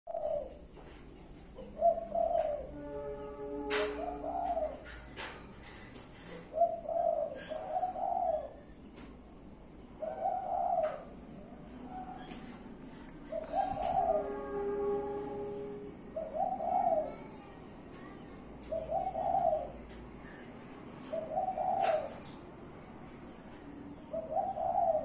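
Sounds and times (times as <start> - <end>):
doves cooing: 0.1 - 17.3, 18.5 - 22.4, 23.4 - 25.0.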